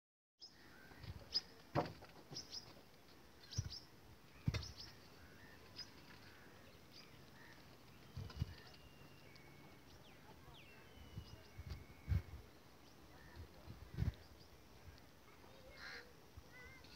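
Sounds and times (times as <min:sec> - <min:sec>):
small birds chirping: 0:00.4 - 0:16.9.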